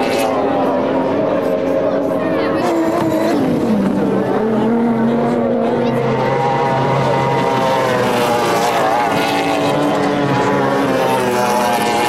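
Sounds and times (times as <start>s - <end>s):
racing powerboat engines at high revs: 0.0s - 12.0s.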